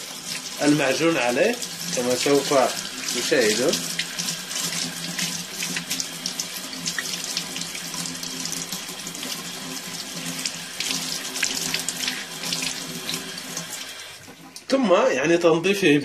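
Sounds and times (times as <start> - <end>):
tap water splashing into steel sink: 0.0 - 14.8.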